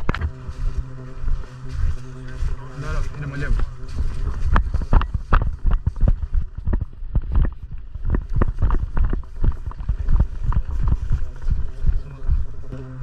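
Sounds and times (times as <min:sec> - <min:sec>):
footsteps running: 0:00.0 - 0:12.8.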